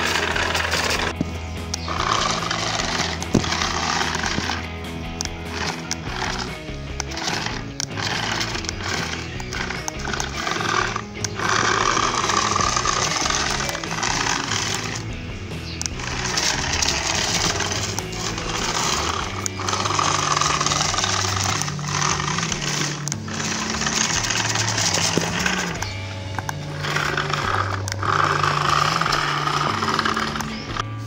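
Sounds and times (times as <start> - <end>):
background music with bass line: 0.0 - 31.0.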